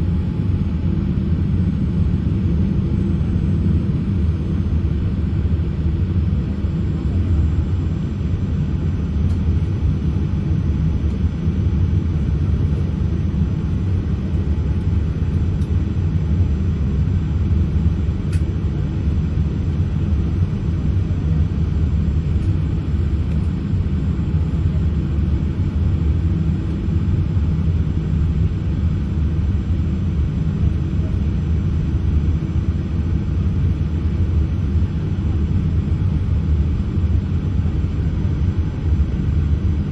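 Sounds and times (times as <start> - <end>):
airliner engines idling: 0.0 - 39.9
low rumble inside aircraft cabin: 0.0 - 39.9.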